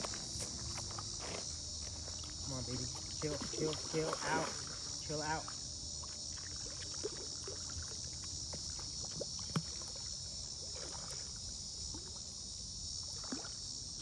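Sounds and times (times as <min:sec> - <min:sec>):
water sloshing: 0:00.0 - 0:12.2
crickets chirping: 0:00.0 - 0:14.0.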